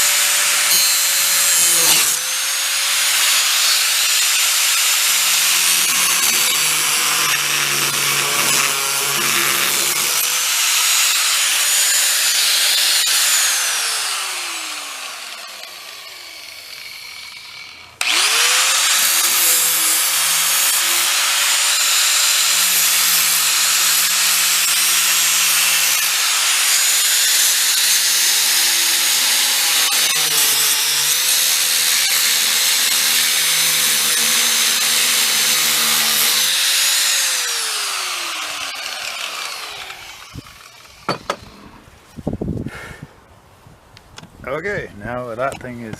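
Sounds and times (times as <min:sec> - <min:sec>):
angle grinder cutting steel: 0:00.0 - 0:41.9.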